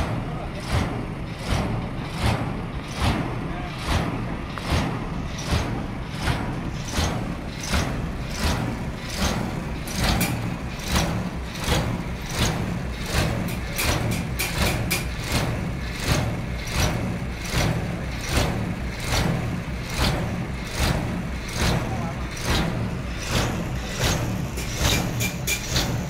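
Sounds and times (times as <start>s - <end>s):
heavy sawmill engine running: 0.0s - 26.0s
sharp clack: 0.6s - 19.3s, 21.6s - 26.0s.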